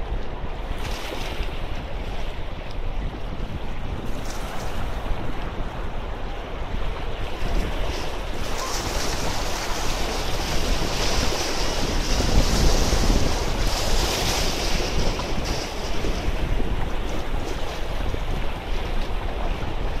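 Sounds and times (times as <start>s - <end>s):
wind buffeting microphone: 0.0s - 20.0s
waves splashing against rocks: 0.2s - 20.0s.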